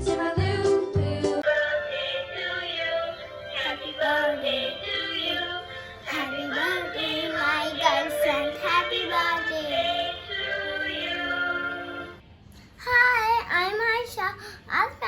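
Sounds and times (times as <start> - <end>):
song with high singing voice: 0.0 - 13.2.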